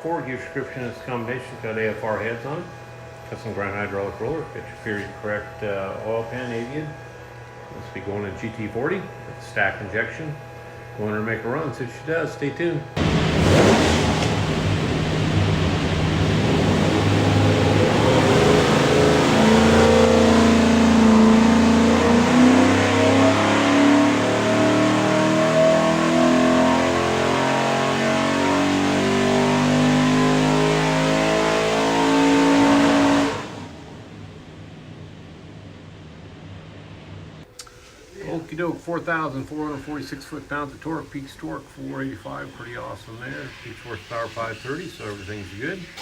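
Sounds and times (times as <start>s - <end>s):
engine running hard: 0.0s - 37.5s.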